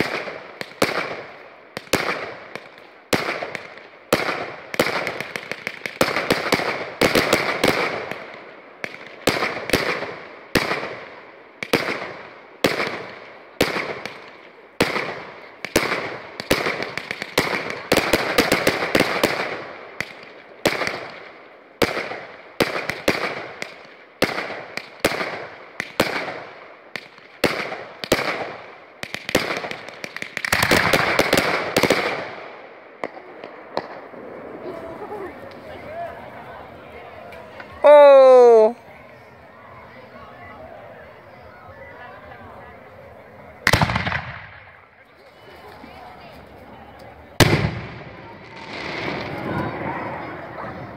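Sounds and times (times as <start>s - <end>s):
fireworks bangs: 0.0s - 36.4s, 43.6s - 46.4s, 47.3s - 50.9s
fireworks crackling: 0.0s - 40.0s, 42.5s - 50.9s.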